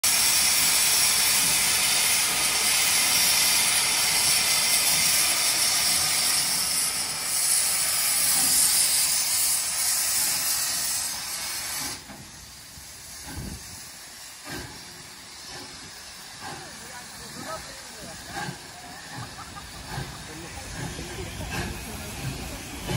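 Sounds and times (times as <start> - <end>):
steam hissing loudly: 0.0 - 22.9.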